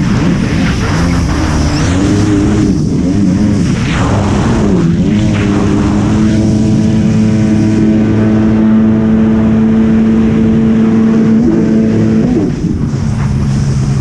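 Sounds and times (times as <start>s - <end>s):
jet ski engine running: 0.0s - 14.0s
water noise: 0.0s - 14.0s.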